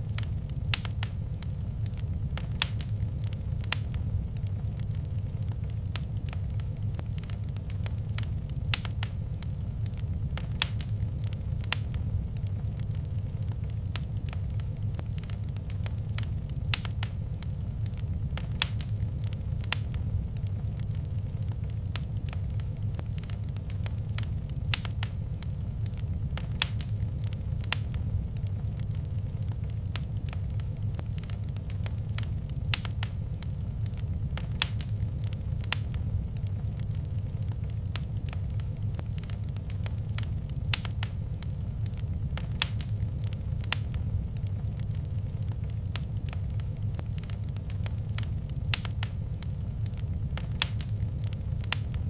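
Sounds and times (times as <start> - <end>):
fire low rumble: 0.0 - 52.0
wood fire crackling: 0.0 - 52.0.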